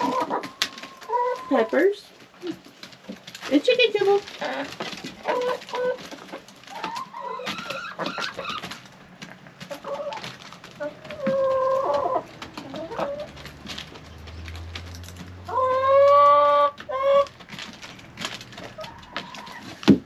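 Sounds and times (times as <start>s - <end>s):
beaks pecking feeder: 0.0s - 19.9s
hens clucking: 0.0s - 20.0s.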